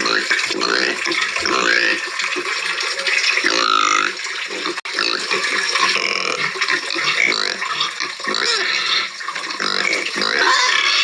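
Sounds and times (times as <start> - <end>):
pigs squealing and grunting: 0.0 - 11.0.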